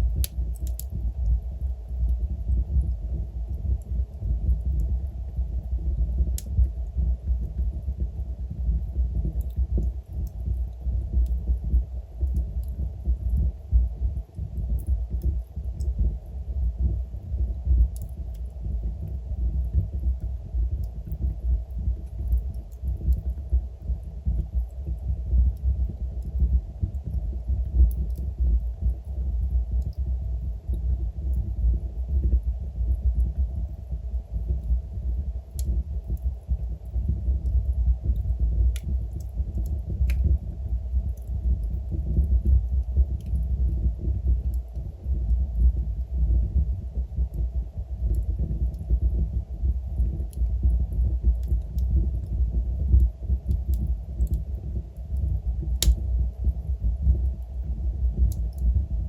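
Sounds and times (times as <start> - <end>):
fire crackles: 0.0 - 59.0
fire rumbling: 0.0 - 59.0.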